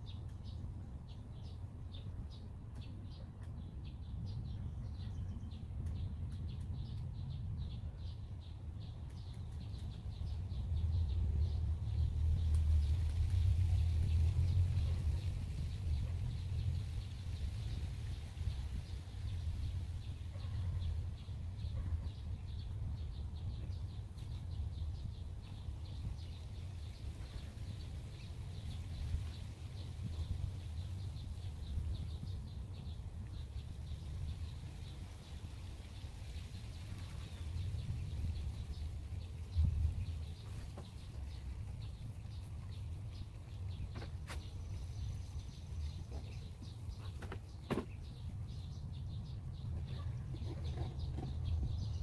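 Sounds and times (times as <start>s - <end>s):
birds chirping: 0.0s - 52.0s
low steady rumble: 0.0s - 52.0s.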